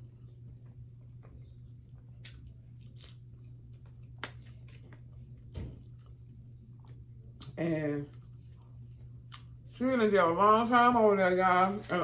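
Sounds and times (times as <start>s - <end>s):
person chewing soft food: 0.0s - 9.8s
steady low hum: 0.0s - 12.0s.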